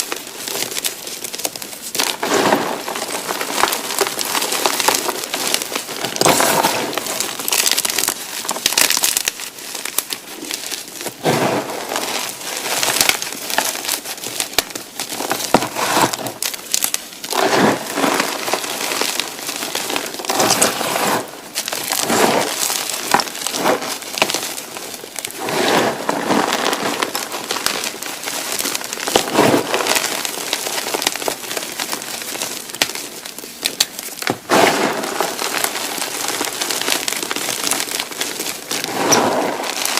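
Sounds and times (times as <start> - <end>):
chalk crushed by hand: 0.5 - 24.6, 25.3 - 39.9.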